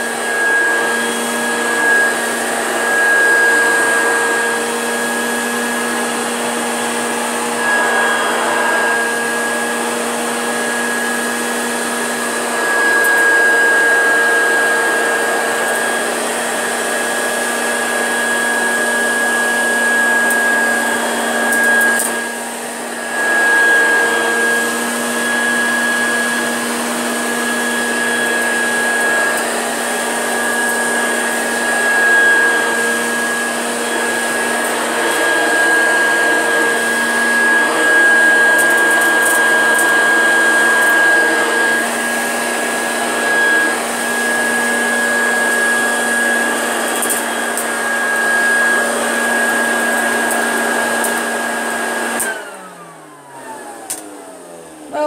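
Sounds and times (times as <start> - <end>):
upright vacuum cleaner whining: 0.0 - 55.0.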